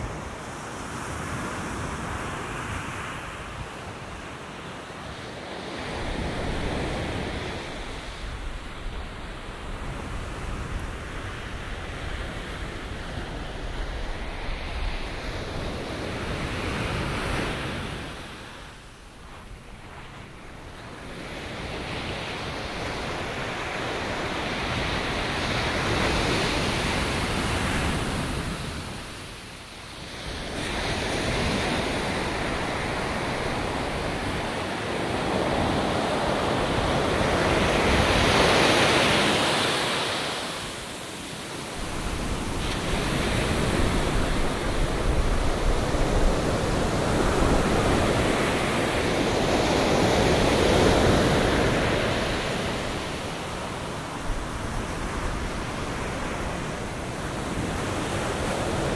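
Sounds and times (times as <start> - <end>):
ocean waves breaking: 4.4 - 58.9.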